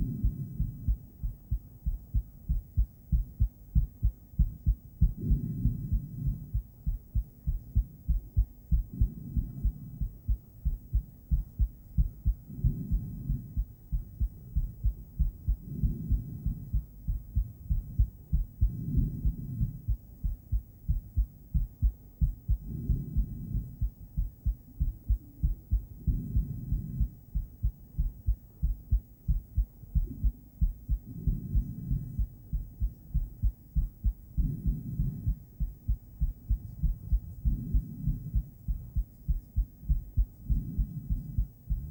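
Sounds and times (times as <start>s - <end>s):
doppler heartbeat pulsing: 0.0s - 41.9s.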